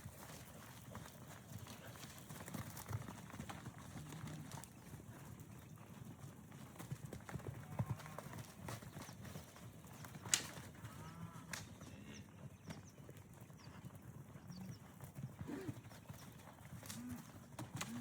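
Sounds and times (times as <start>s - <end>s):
cattle hoofbeats running: 0.0s - 18.0s.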